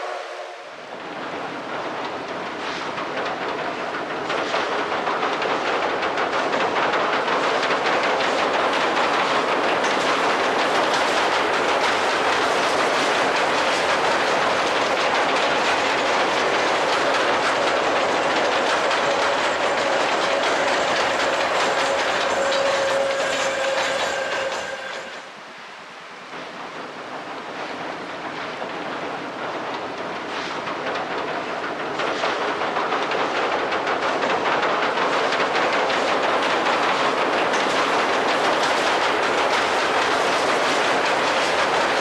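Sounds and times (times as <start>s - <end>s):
train wheels clattering on bridge: 0.0s - 25.4s, 26.2s - 42.0s.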